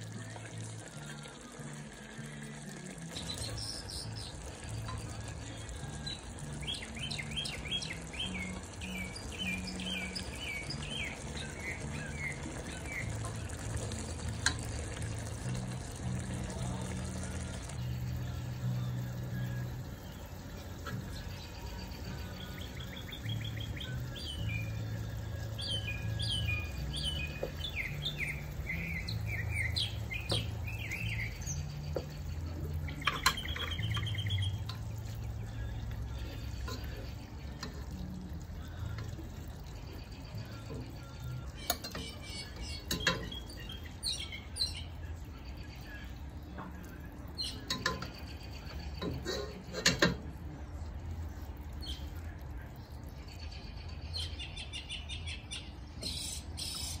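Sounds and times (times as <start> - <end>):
birds chirping: 0.2 - 57.0.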